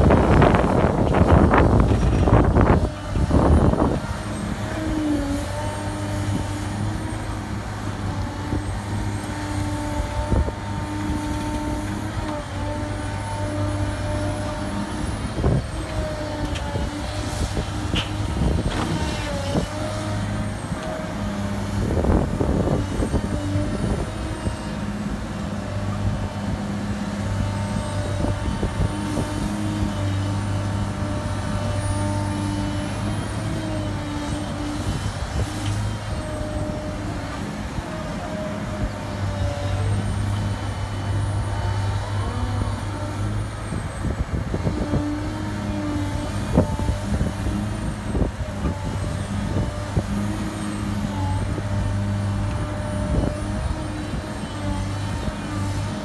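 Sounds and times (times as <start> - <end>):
diesel engine running under load: 0.0 - 56.0
hydraulic whine: 0.0 - 56.0.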